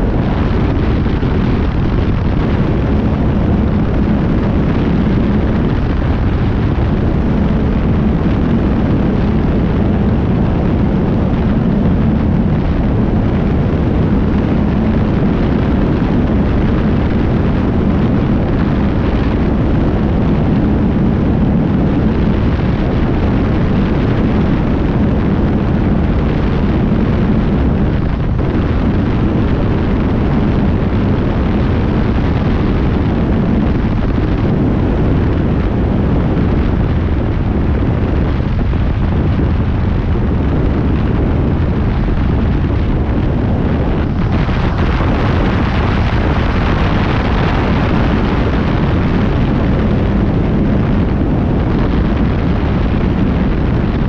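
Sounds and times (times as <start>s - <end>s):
propeller plane engine: 0.0s - 54.0s
wind rush over microphone: 0.0s - 54.0s.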